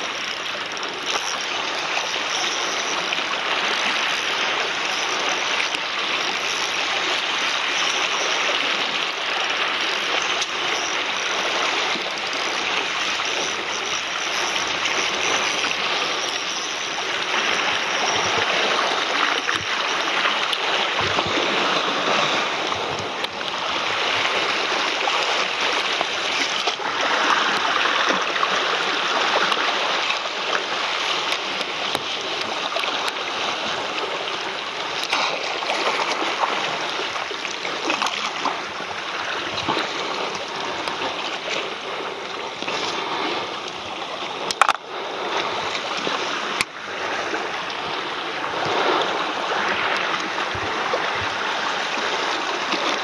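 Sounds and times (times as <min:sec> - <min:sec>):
seawater washing against rocks: 0:00.0 - 0:53.0
small water splashes: 0:00.0 - 0:53.0.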